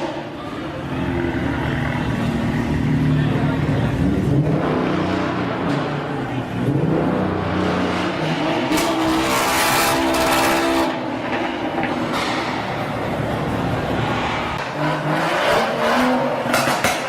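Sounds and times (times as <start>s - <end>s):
car engine revving: 1.0s - 17.0s.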